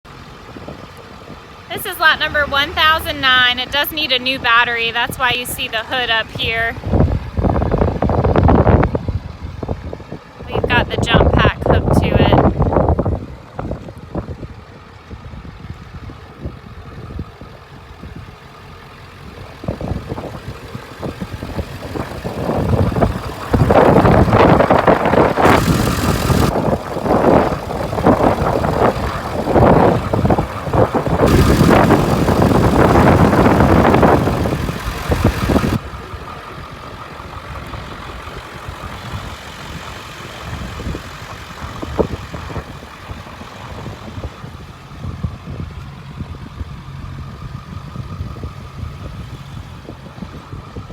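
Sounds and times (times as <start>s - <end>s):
diesel truck engine idling: 0.1s - 50.9s.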